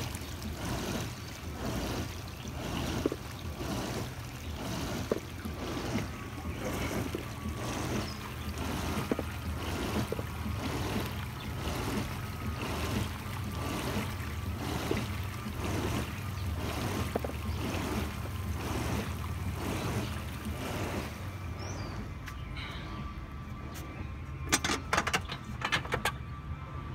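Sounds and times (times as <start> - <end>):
water churning and bubbling: 0.0 - 23.2
low motor hum: 0.0 - 26.9.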